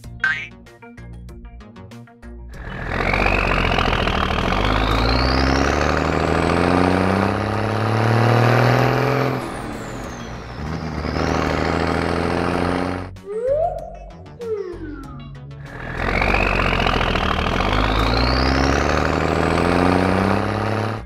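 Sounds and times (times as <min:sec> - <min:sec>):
truck engine accelerating: 0:02.5 - 0:21.0.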